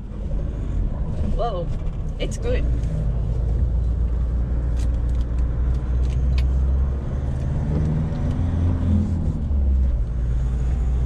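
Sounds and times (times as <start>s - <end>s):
diesel engine rumble in cab: 0.0s - 11.0s.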